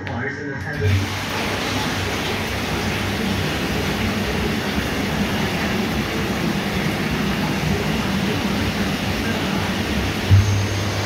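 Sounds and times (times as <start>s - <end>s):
low pump hum: 0.8s - 11.0s
water churning and bubbling: 0.8s - 11.0s.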